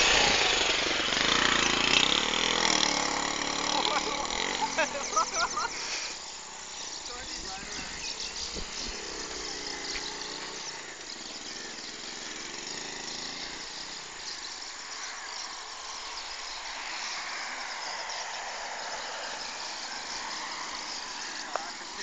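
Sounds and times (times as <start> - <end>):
insect chirring: 0.0 - 22.0
vehicle engine running: 0.0 - 22.0.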